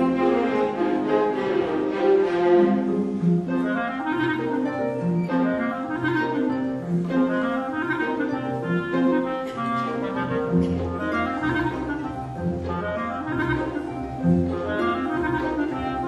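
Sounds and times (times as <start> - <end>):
clarinet melody: 0.0 - 16.0
string orchestra: 0.0 - 16.0.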